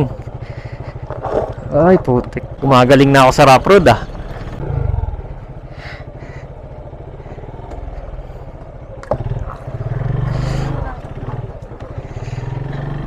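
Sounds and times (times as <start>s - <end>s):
motorcycle engine on gravel: 0.0s - 5.6s, 6.5s - 13.0s.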